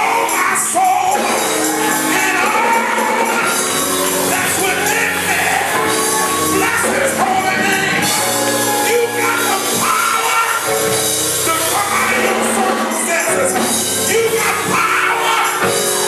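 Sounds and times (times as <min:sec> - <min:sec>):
gospel singing: 0:00.0 - 0:16.0
held instrumental notes: 0:00.0 - 0:16.0.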